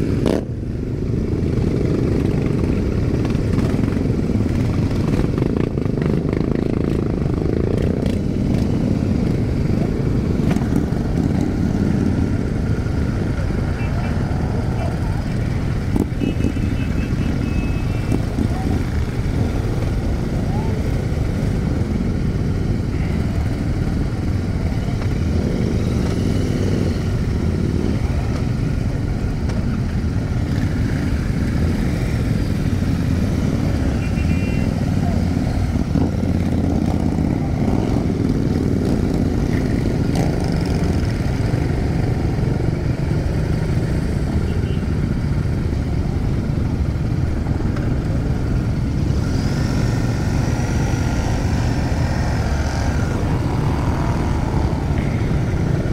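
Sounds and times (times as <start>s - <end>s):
motorcycle engines idling: 0.0s - 55.9s.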